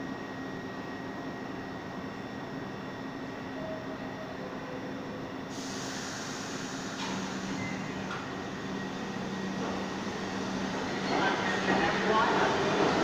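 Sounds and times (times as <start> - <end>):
subway train rumble and hiss: 0.0 - 13.0.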